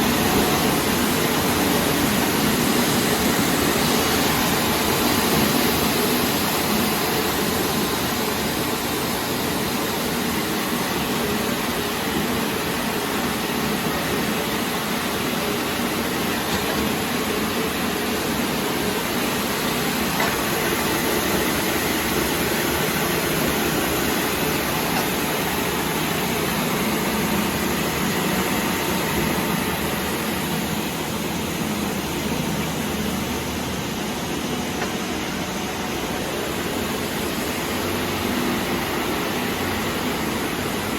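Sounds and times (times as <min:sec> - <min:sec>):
production line machinery running: 0:00.0 - 0:40.9.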